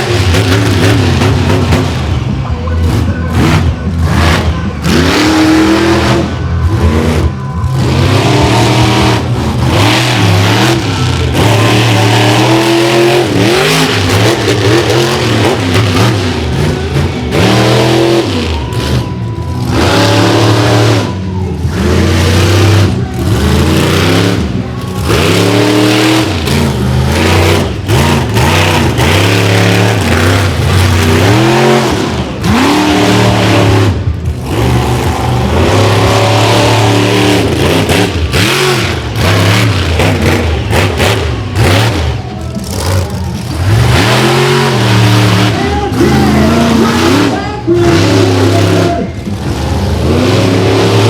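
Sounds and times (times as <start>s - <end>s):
monster truck engine revving: 0.0s - 51.0s.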